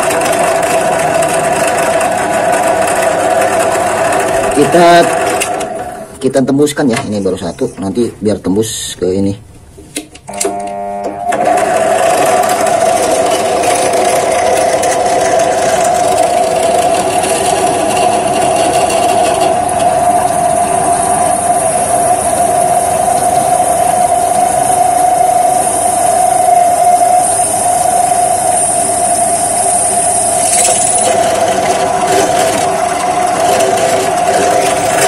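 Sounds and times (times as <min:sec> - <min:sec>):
drill press motor hum: 0:00.0 - 0:06.3, 0:10.2 - 0:35.0
drill bit cutting whine: 0:00.0 - 0:08.1, 0:10.3 - 0:35.0.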